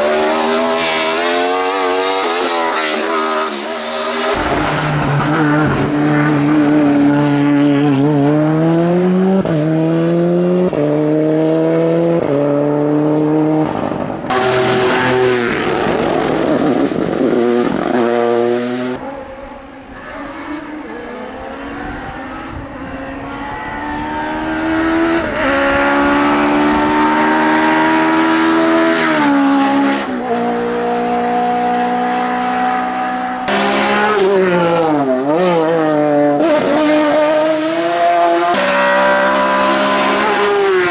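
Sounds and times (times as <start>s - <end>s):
race car engines at full throttle: 0.0s - 40.9s.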